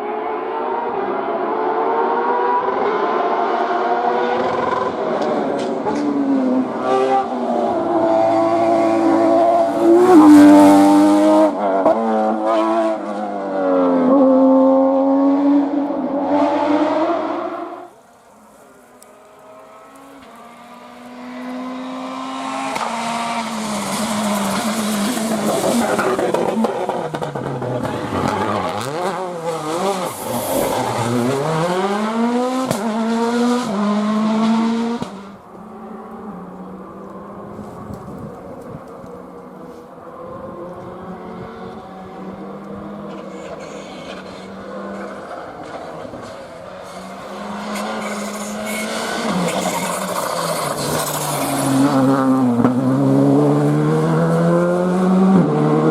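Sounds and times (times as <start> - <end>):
rally cars passing at speed: 0.0 - 55.9
engines revving high: 0.1 - 17.9, 19.2 - 37.8, 40.3 - 55.9.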